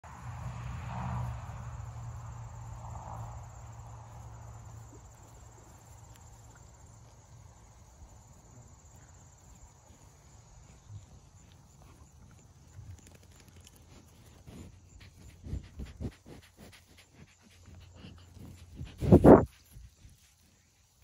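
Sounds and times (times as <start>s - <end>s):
crickets chirping: 0.1s - 21.0s.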